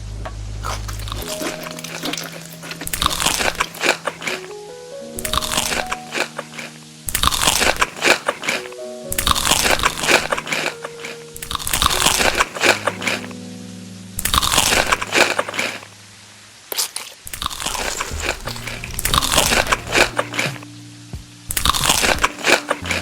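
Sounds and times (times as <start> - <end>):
background music: 0.0 - 16.4, 17.8 - 23.0
crunchy food chewing: 0.6 - 4.5, 5.2 - 13.3, 14.2 - 15.9, 16.7 - 20.6, 21.5 - 23.0.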